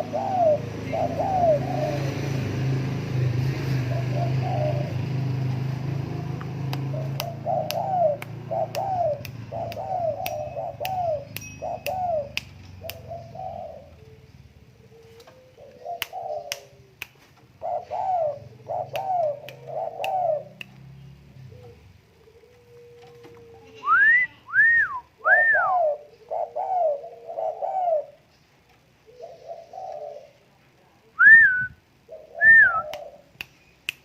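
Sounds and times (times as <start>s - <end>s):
dove cooing: 0.0s - 3.0s, 3.6s - 20.6s, 21.3s - 30.5s, 31.1s - 33.4s.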